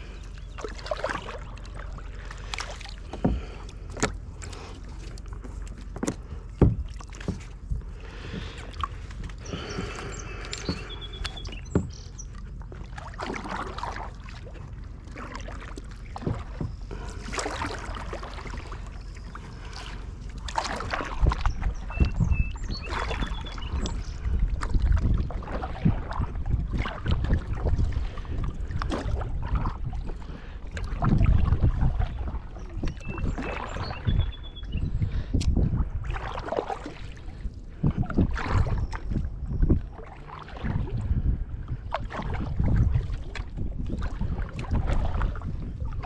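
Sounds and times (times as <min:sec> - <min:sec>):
kayak paddle strokes in water: 0:00.0 - 0:46.0
wind rumble on microphone: 0:00.0 - 0:46.0.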